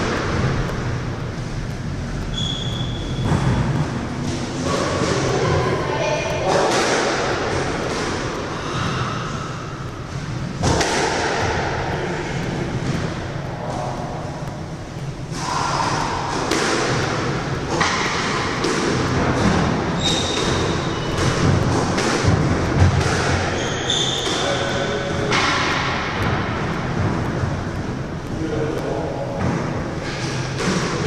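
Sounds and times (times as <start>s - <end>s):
squash ball hitting rackets: 0.0s - 31.0s.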